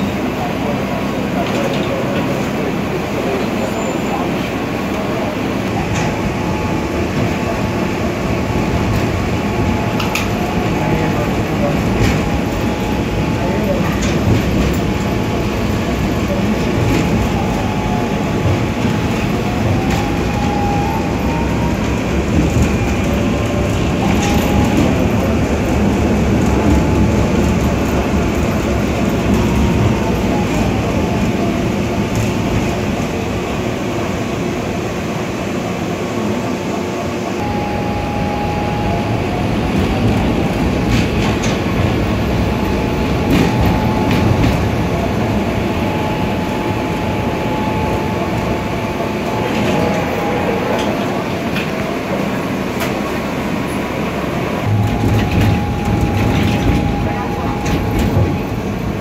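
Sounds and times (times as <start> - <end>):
tram rumbling on tracks: 0.0 - 59.0.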